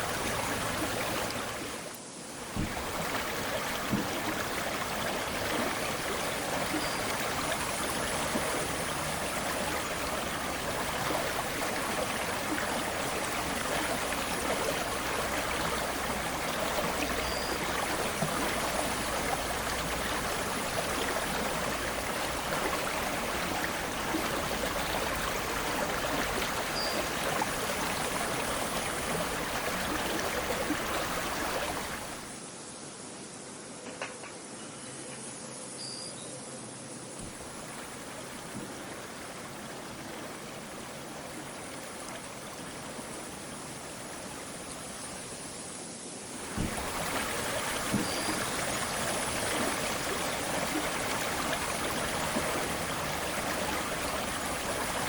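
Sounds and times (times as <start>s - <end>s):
river water rushing: 0.0s - 32.4s, 37.2s - 45.4s, 46.3s - 55.0s.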